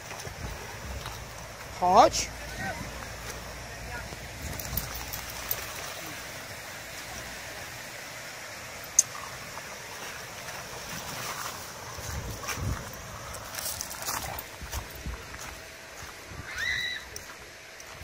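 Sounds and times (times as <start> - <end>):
water splashing and sloshing: 0.0 - 16.4.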